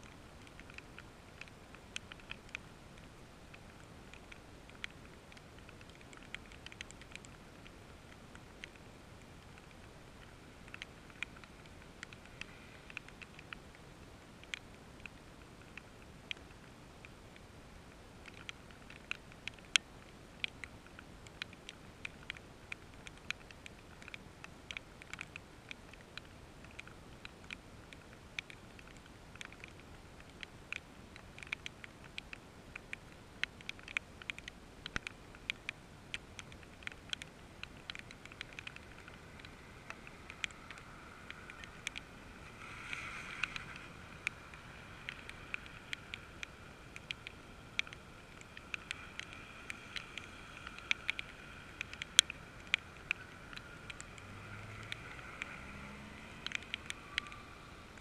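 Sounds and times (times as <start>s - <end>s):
raindrops ticking: 0.0s - 58.0s
soft rain hiss: 0.0s - 58.0s.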